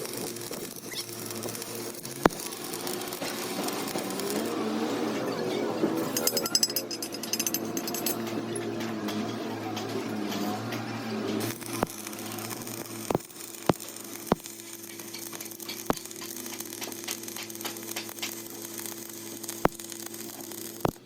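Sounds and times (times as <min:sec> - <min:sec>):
mechanical hum with crackling hiss: 0:00.0 - 0:21.0.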